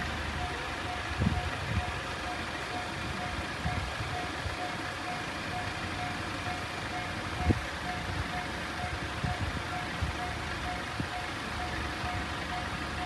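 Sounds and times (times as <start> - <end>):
level crossing alarm bell: 0.0 - 13.0.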